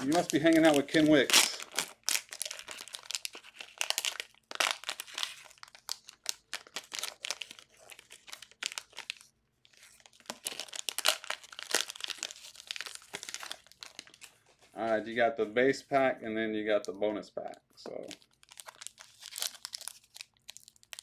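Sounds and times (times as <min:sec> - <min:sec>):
plastic wrapper crinkling and tearing: 0:00.0 - 0:14.7, 0:17.8 - 0:21.0.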